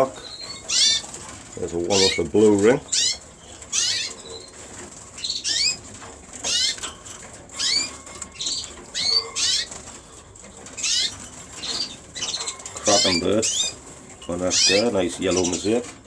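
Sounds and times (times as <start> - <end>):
canaries chirping and singing: 0.0 - 16.0.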